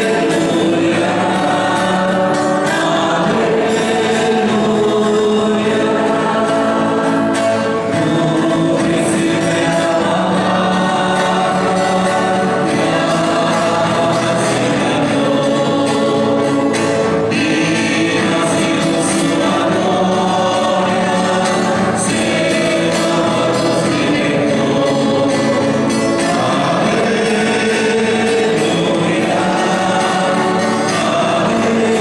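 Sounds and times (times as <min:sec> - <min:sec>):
church choir singing: 0:00.0 - 0:32.0.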